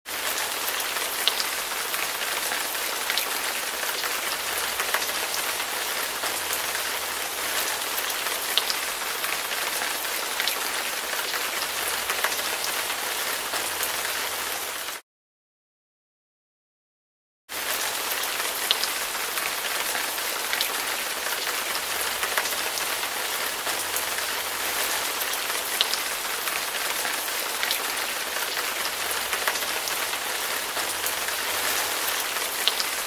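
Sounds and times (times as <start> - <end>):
heavy rain falling: 0.1 - 15.0, 17.5 - 33.0.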